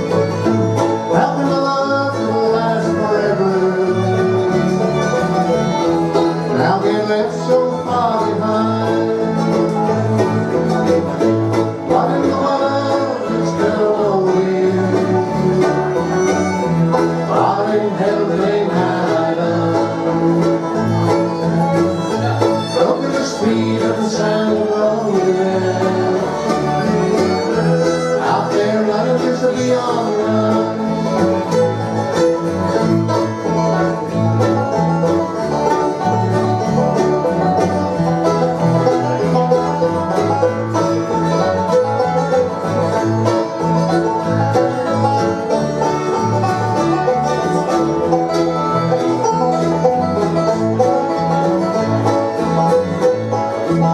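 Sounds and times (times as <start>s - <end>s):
banjo picking: 0.0s - 53.9s
bluegrass band playing: 0.0s - 53.9s
fiddle: 0.0s - 53.9s
guitar picking: 0.0s - 53.9s.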